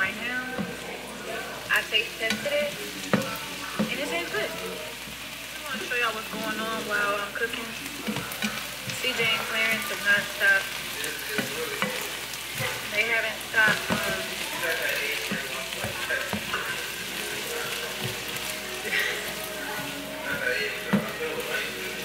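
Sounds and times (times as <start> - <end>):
peppers sizzling in frying pan: 0.0 - 22.0
spatula scraping pan: 0.0 - 22.0.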